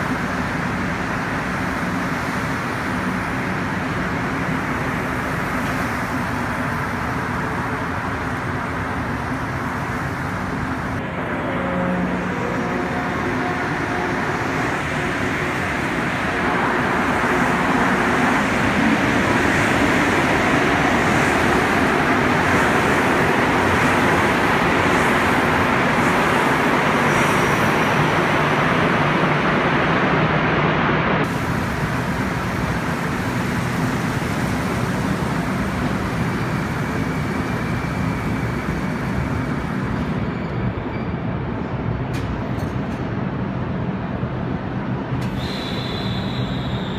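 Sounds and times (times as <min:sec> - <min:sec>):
metro train rushing rumble: 0:00.0 - 0:46.9.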